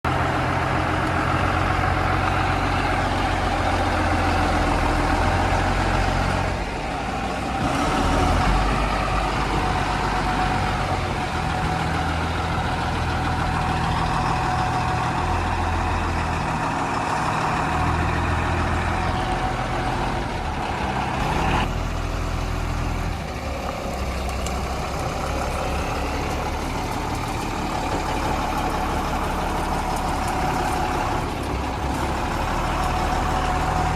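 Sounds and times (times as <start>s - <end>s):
heavy diesel engine working: 0.0s - 33.9s.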